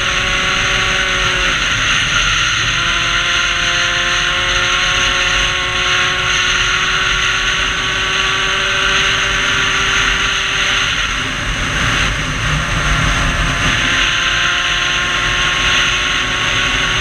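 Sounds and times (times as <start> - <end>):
two-stroke motorcycle engine: 0.0 - 17.0
wind rush on camera: 0.0 - 17.0.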